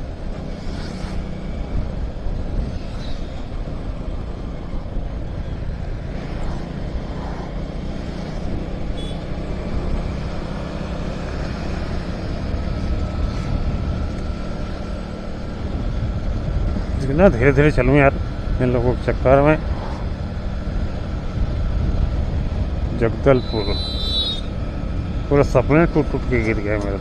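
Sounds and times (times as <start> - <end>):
motorcycle engine hum: 0.0 - 27.0
wind rushing over microphone: 0.0 - 27.0.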